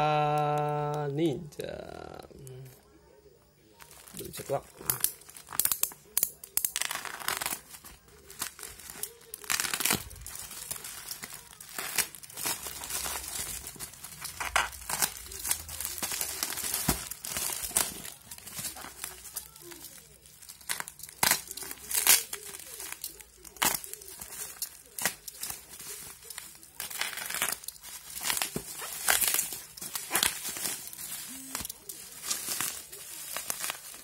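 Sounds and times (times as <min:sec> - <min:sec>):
plastic packaging crinkling: 0:03.8 - 0:34.0
plastic tearing: 0:03.8 - 0:34.0.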